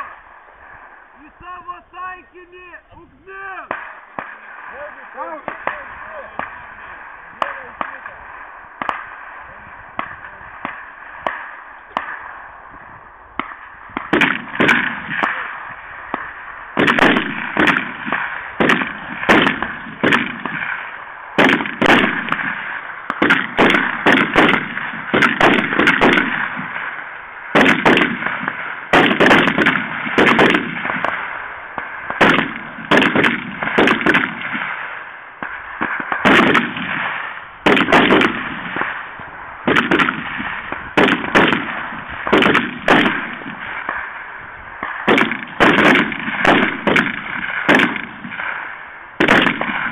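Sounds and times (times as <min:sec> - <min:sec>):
gunshots with echo: 0:03.3 - 0:49.9.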